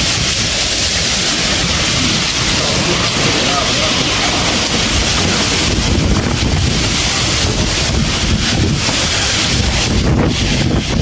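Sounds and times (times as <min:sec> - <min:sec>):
loud rushing noise: 0:00.0 - 0:11.0
wind buffeting microphone: 0:00.0 - 0:11.0.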